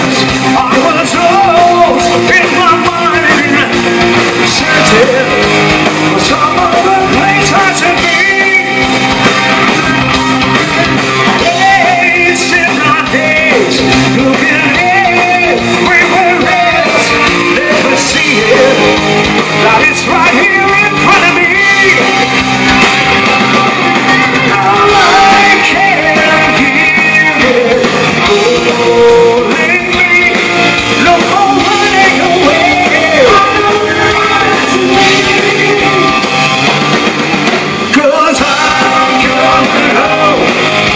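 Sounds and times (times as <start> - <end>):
man singing: 0.0 - 8.9, 10.6 - 22.3, 24.4 - 36.4, 37.9 - 40.7
hard rock band playing: 0.0 - 40.9.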